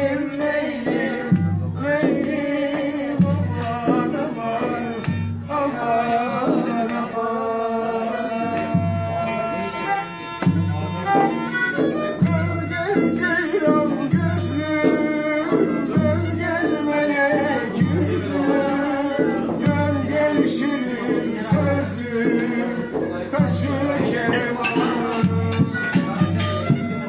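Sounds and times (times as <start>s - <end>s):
bowed string instrument melody: 0.0s - 27.0s
low beat: 0.0s - 27.0s
men singing: 0.0s - 27.0s.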